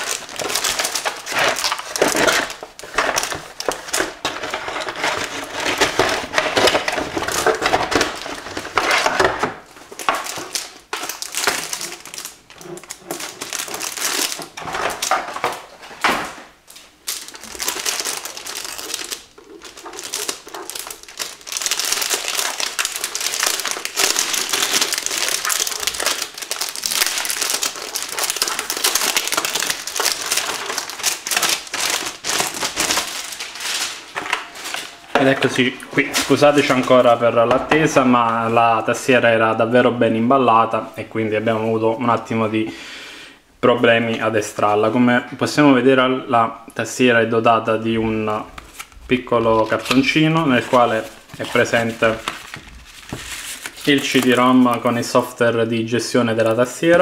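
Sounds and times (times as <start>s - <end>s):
packaging crinkling and rustling: 0.0s - 38.9s, 47.8s - 55.4s.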